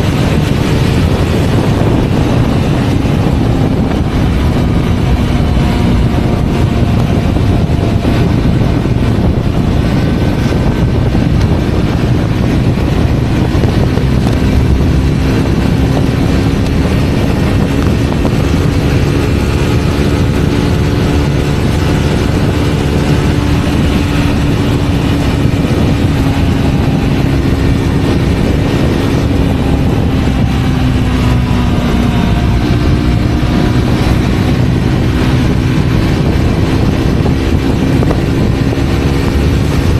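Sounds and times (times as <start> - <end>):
motorcycle engine at high revs: 0.0 - 39.9
wind rushing: 0.0 - 39.9.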